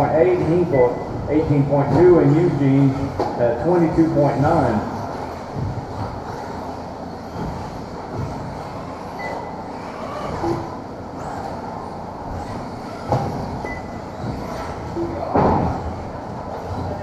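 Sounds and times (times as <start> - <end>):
electric motors whirring: 0.0 - 17.0.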